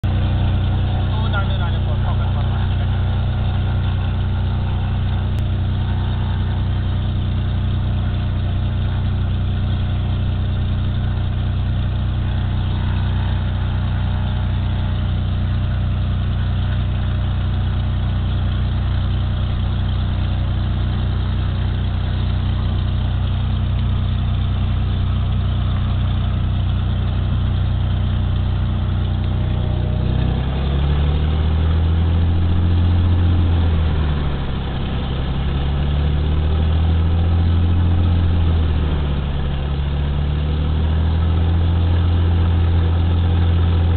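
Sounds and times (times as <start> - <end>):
propeller plane engine throbbing: 0.0 - 43.9.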